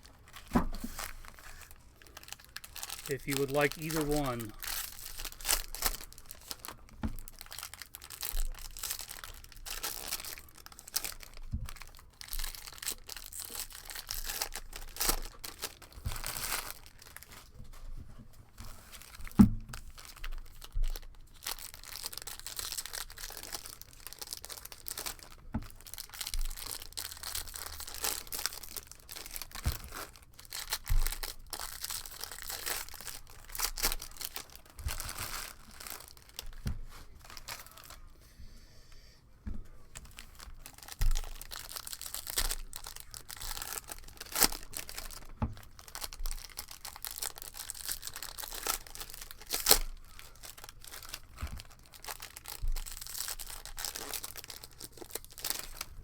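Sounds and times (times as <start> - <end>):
packaging rustling: 0.0 - 17.8, 18.5 - 38.1, 39.9 - 56.0
wrappers crinkling and tearing: 0.0 - 17.9, 18.5 - 38.1, 39.9 - 56.0.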